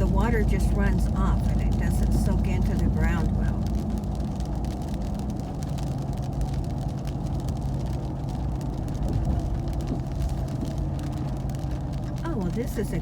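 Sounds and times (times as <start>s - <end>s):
pickup truck engine droning: 0.0s - 13.0s
road noise: 0.0s - 13.0s.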